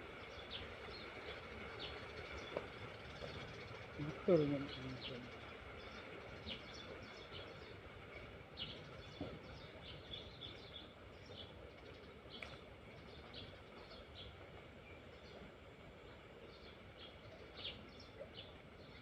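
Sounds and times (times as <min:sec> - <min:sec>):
faint outdoor background noise: 0:00.0 - 0:19.0
small birds chirping: 0:00.2 - 0:15.5.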